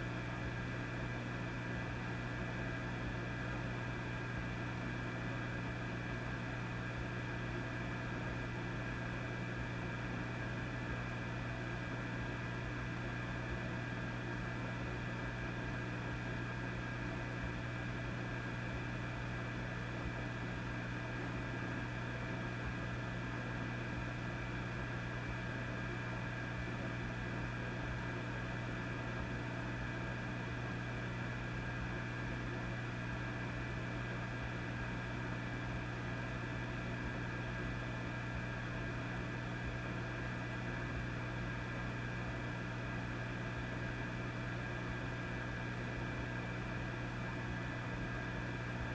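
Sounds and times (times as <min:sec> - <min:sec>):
amplifier mains hum: 0:00.0 - 0:48.9.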